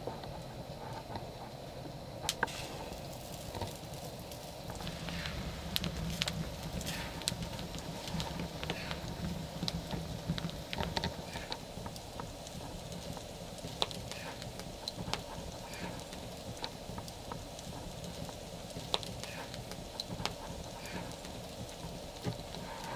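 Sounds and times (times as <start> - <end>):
wood fire crackling: 0.0 - 22.9
fire pops and snaps: 2.2 - 22.9.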